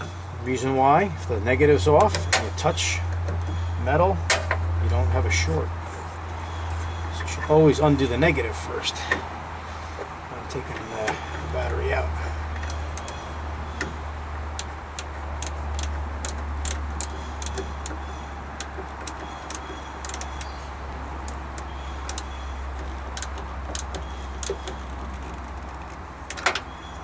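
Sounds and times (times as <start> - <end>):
steady low hum: 0.0 - 26.3.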